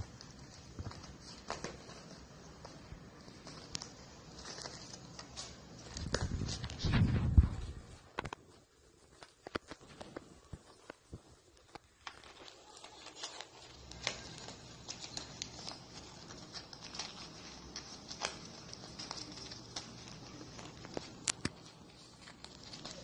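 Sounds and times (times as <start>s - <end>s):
dog chewing crumpled paper: 0.0s - 23.0s.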